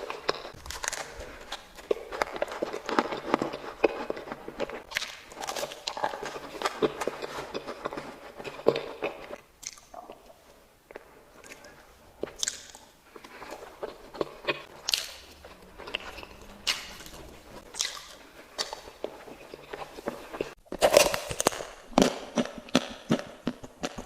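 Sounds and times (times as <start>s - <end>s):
crunchy chewing of sweets: 0.0s - 24.0s.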